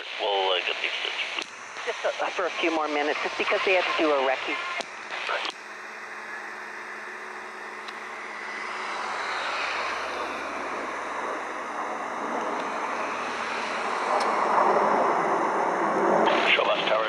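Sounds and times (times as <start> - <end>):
jet noise overhead: 0.0 - 17.0.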